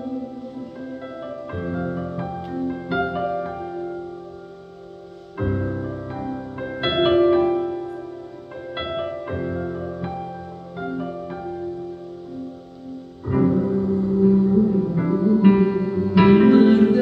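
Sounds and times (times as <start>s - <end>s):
piano playing slow ringing chords: 0.0s - 17.0s.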